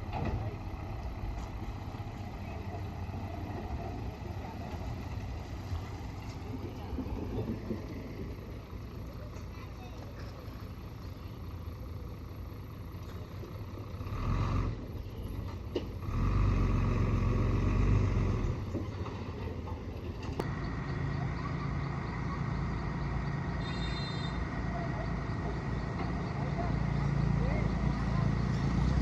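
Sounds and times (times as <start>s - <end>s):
heavy vehicle engine running: 0.0s - 29.0s.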